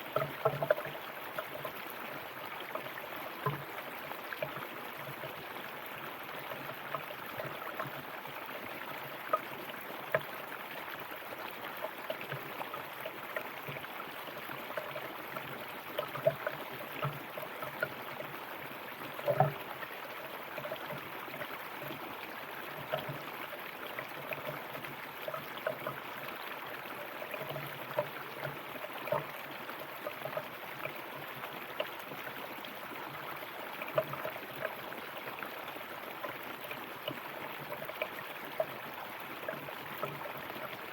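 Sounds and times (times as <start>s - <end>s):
river water flowing over rocks: 0.0s - 40.9s
water gurgles and splashes: 0.0s - 40.9s.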